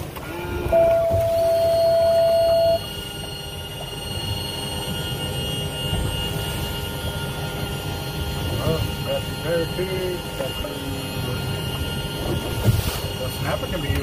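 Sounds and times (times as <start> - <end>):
loud steady tone: 0.0 - 14.0
outboard motors running: 0.0 - 14.0
wind and water noise: 0.0 - 14.0.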